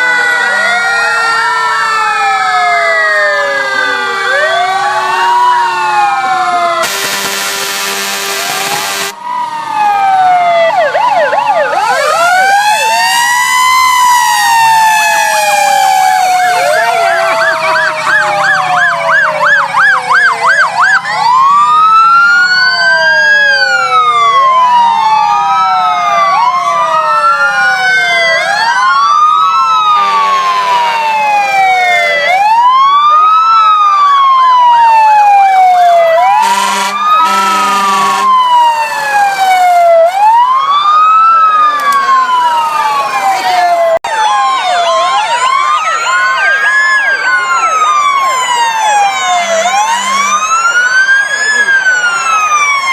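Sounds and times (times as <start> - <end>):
emergency sirens wailing: 0.0 - 52.9
siren yelp: 0.0 - 52.9.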